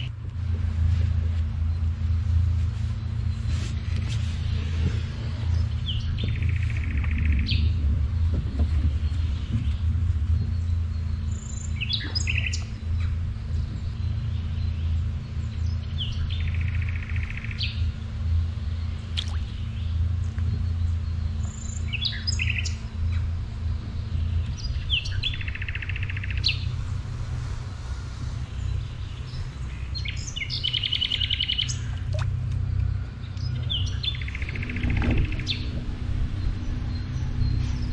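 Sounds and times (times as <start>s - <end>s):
low rumble: 0.0s - 37.9s
songbird singing: 0.0s - 37.9s.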